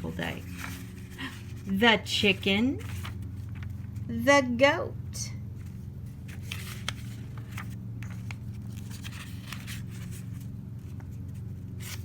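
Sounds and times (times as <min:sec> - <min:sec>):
paper page rustling and turning: 0:00.0 - 0:04.1, 0:05.5 - 0:12.0
steady low hum: 0:00.0 - 0:12.0.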